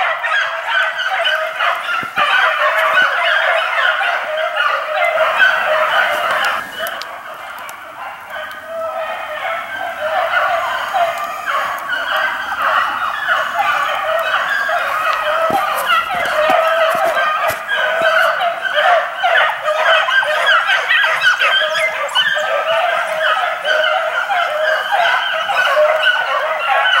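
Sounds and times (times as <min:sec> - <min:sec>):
chorus of honking animal calls: 0:00.0 - 0:27.0.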